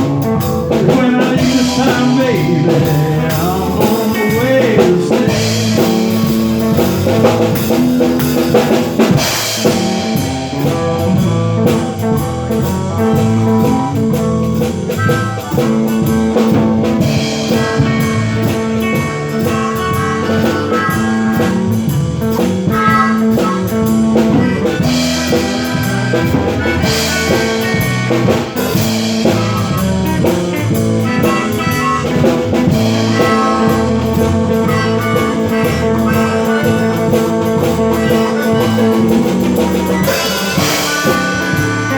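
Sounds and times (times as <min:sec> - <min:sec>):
blues guitar: 0:00.0 - 0:41.9
drum kit beat: 0:00.0 - 0:41.9.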